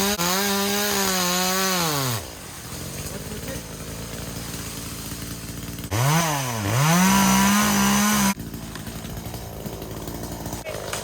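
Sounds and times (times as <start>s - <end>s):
chainsaw idling and revving: 0.0s - 11.0s.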